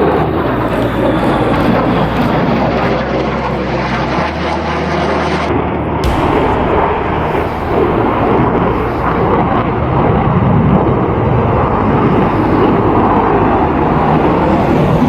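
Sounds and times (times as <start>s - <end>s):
airplane flying overhead: 0.0s - 15.0s.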